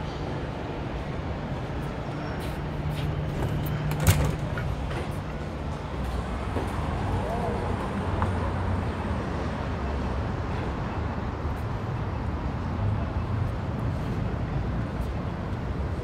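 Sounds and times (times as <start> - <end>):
rumble of passing traffic: 0.0 - 16.0.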